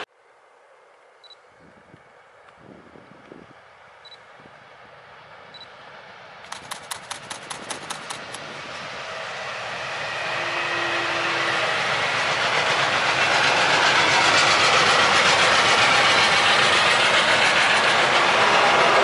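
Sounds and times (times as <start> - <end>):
freight wagons rumbling on rails: 1.7 - 19.0.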